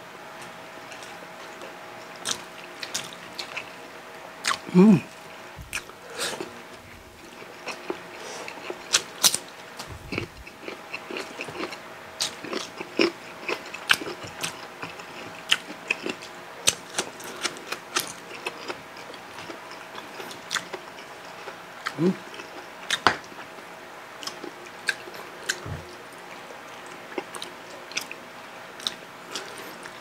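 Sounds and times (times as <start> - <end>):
chewing: 0.9 - 3.8, 4.4 - 23.5, 24.2 - 28.2, 28.8 - 30.0.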